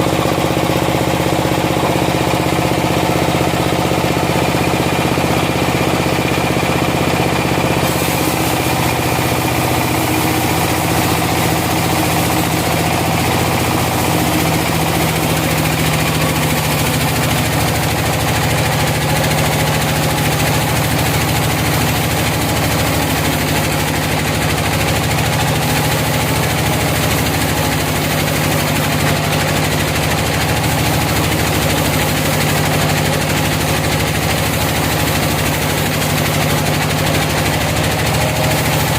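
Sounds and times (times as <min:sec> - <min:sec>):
loud machine noise: 0:00.0 - 0:38.9
sawmill engine humming: 0:00.0 - 0:38.9.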